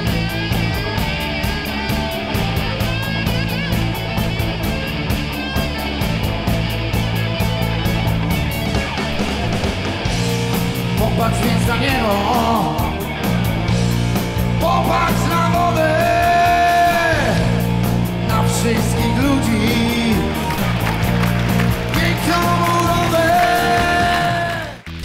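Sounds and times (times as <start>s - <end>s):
blues-rock band playing: 0.0s - 25.0s
lead electric guitar: 0.0s - 25.0s.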